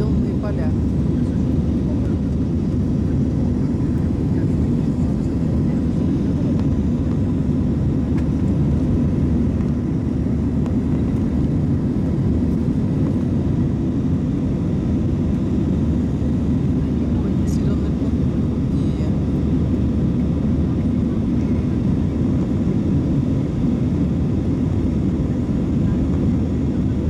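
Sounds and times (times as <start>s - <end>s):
jet engine and airflow noise: 0.0s - 27.0s.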